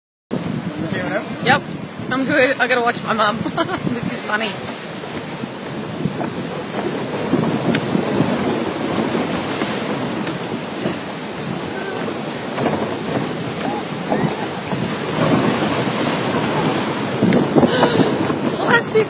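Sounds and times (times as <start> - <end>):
sea water rushing: 0.3 - 19.0
wind buffeting microphone: 0.3 - 19.0
wind rushing: 0.3 - 19.0.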